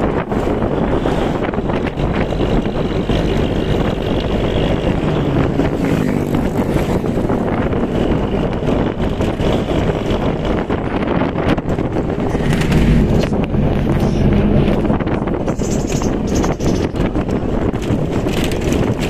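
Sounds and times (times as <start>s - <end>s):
vehicle engine and road noise: 0.0s - 19.0s
wind rushing over microphone: 0.0s - 19.0s.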